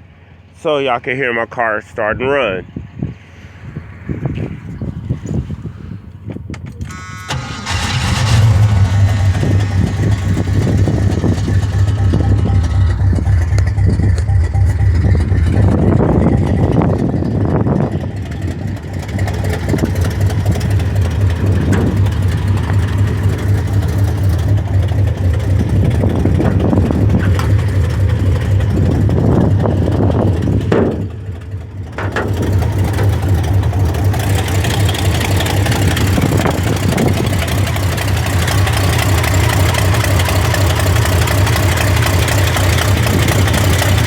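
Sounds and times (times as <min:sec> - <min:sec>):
car engine starting and running: 0:02.7 - 0:44.0.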